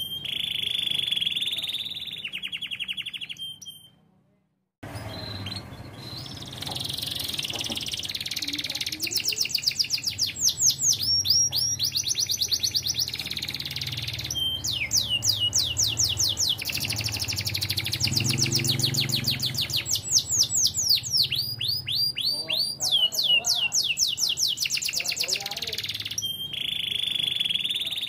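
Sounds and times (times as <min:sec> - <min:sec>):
canary singing: 0:00.0 - 0:04.0, 0:04.8 - 0:28.0.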